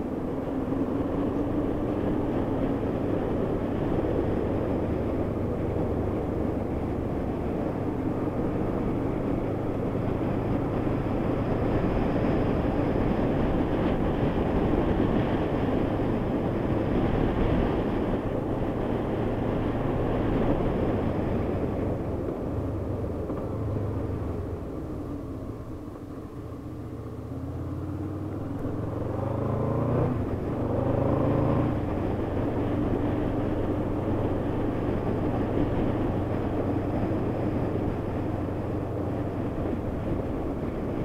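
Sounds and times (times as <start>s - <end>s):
rushing wind noise: 0.0s - 41.0s
motorcycle engine running: 0.2s - 41.0s.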